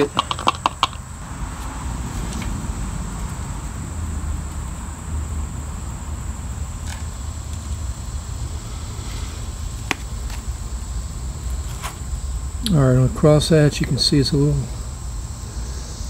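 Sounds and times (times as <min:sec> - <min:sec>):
high insect buzz: 0:00.0 - 0:16.0.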